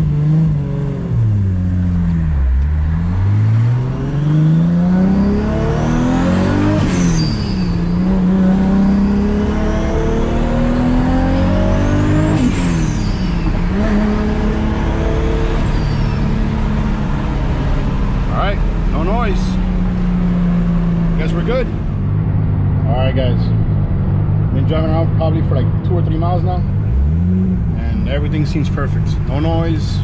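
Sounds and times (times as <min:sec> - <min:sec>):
car engine accelerating through gears: 0:00.0 - 0:30.0.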